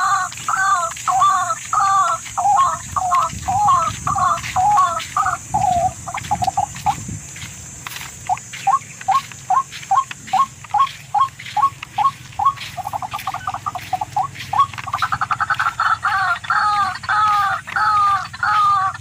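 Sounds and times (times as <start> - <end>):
bird calling rising notes: 0.0 - 7.0, 8.2 - 19.0.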